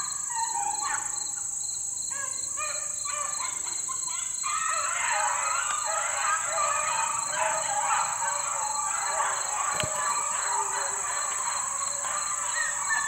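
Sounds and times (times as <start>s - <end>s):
pack of dogs baying: 2.2s - 13.0s.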